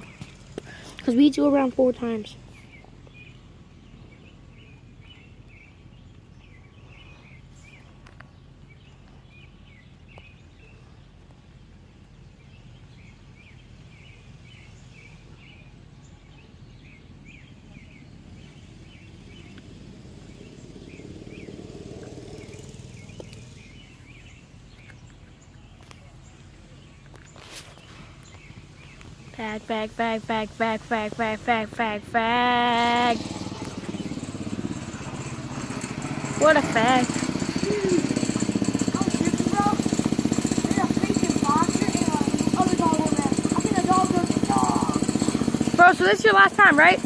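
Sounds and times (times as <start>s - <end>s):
low outdoor background noise: 0.0s - 47.0s
small birds chirping: 0.0s - 47.0s.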